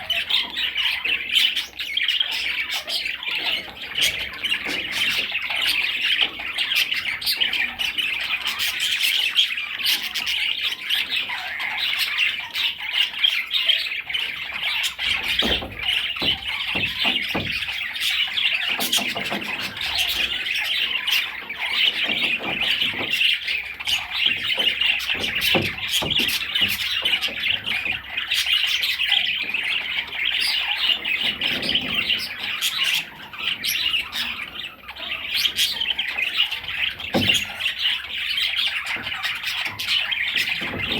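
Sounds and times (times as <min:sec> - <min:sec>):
budgerigar chattering: 0:00.0 - 0:40.9.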